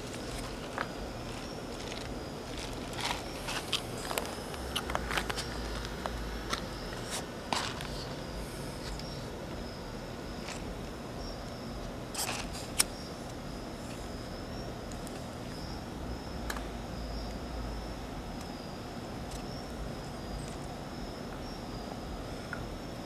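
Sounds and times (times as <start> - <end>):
faint high whine: 0.0 - 23.0
steady background hiss: 0.0 - 23.0.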